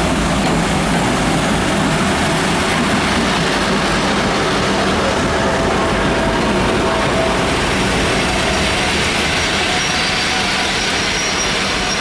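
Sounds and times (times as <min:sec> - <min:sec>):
diesel train rumbling past: 0:00.0 - 0:12.0.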